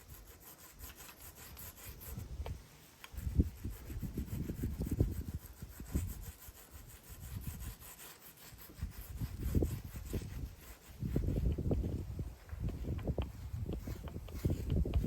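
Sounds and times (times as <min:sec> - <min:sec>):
cloth rubbing on drum shell: 0:00.0 - 0:15.0.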